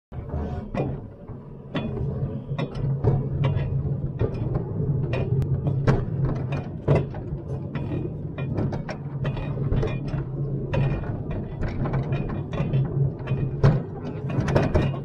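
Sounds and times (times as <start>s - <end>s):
mechanical clacking and rattling: 0.2s - 15.0s.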